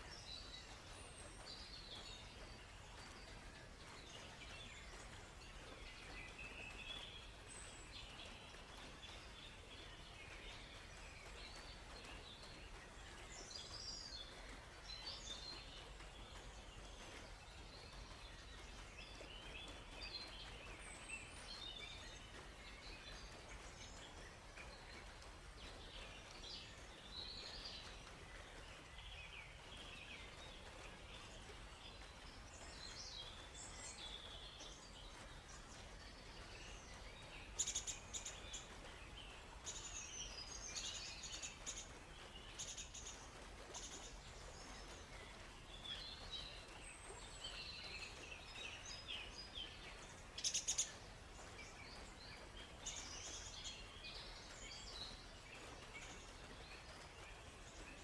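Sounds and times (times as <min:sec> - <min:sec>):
faint background hiss: 0:00.0 - 0:58.0
songbirds chirping and warbling: 0:00.0 - 0:58.0.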